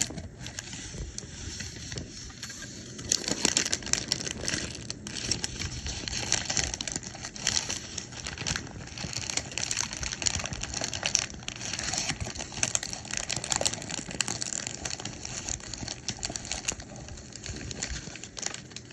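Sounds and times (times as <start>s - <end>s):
paper bag crumpling: 0.0s - 18.9s.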